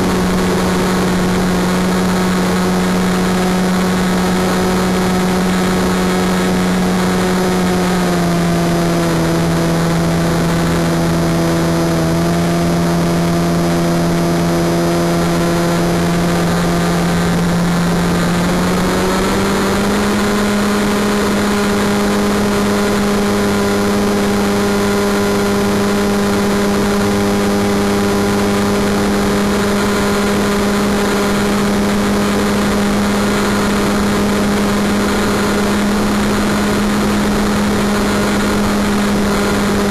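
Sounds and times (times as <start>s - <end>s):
model plane motor droning: 0.0s - 39.9s.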